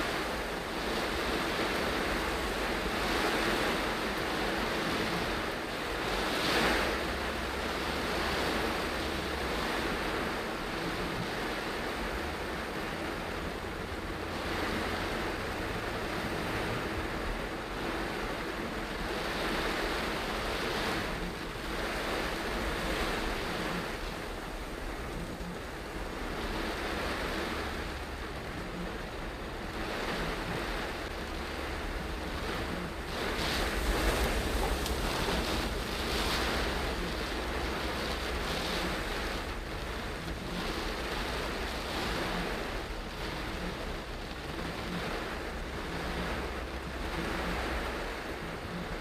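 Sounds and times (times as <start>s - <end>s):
heavy rain on car roof: 0.0s - 49.0s
tyre hiss on wet road: 0.0s - 49.0s.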